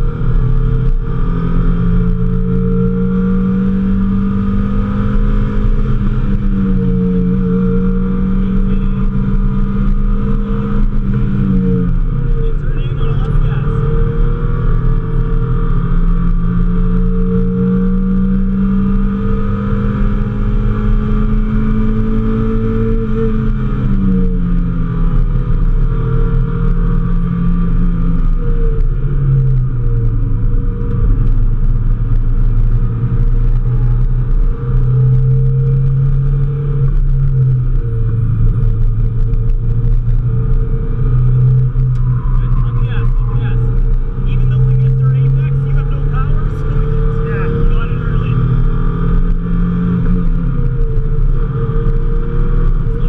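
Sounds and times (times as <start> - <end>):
car engine pulling hard: 0.0 - 53.0
wind and road noise: 0.0 - 53.0.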